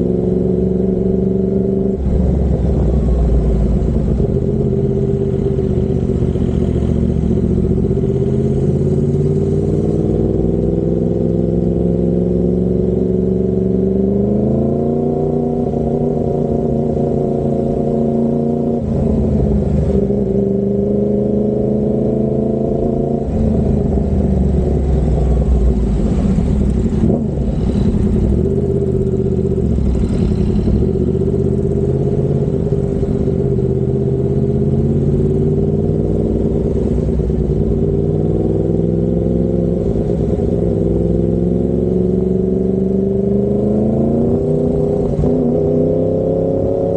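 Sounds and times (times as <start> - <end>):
motorcycle engine under throttle: 0.0 - 46.9.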